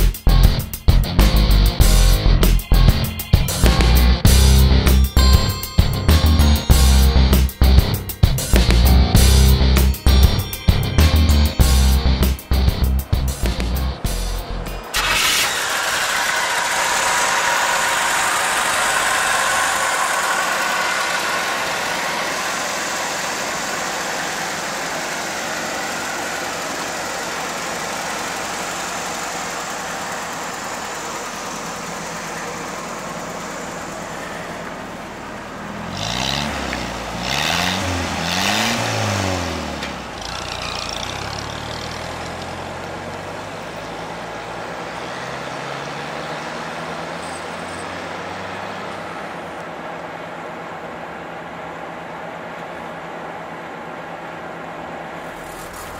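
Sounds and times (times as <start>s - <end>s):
pickup truck engine driving by: 1.2s - 50.7s.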